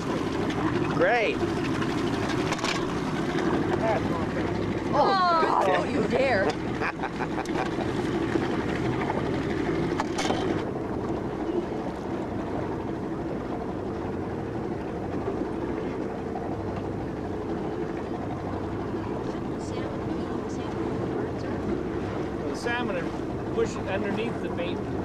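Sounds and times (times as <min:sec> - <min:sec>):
motorboat engine droning: 0:00.0 - 0:25.0
water noise: 0:00.0 - 0:25.0
wind: 0:00.0 - 0:25.0.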